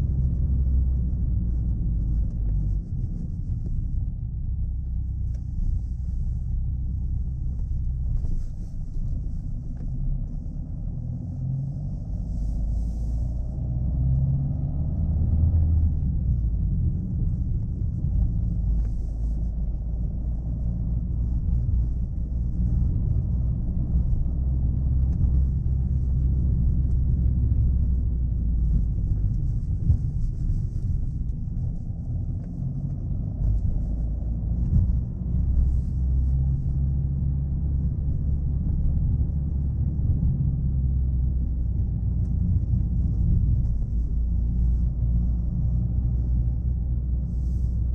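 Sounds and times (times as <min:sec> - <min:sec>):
car engine drone: 0:00.0 - 0:47.9
road rumble: 0:00.0 - 0:47.9.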